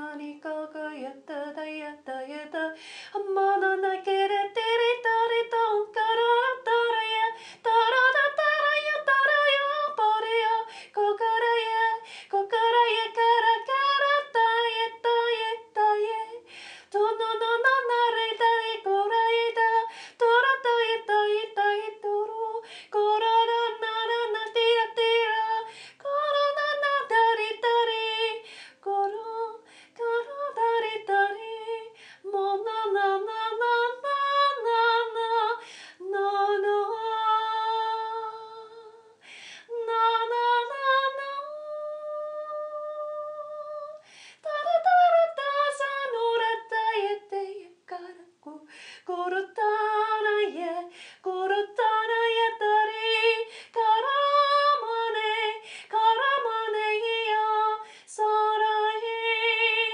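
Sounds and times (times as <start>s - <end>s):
woman singing wordless syllables: 0.0s - 59.9s.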